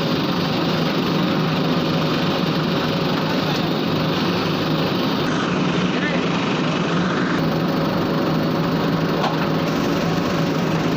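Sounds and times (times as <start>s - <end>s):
heavy diesel engine running: 0.0s - 10.9s.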